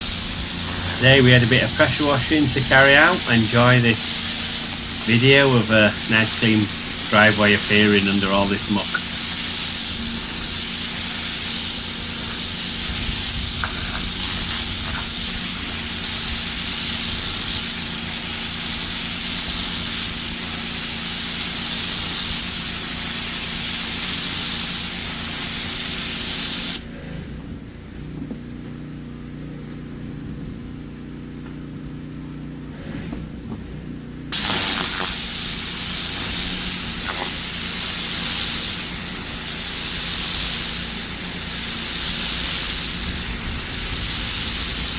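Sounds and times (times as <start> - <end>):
pressure washer motor hum: 0.0 - 26.8, 34.3 - 44.9
pressure washer spray hissing: 0.0 - 26.8, 34.3 - 44.9.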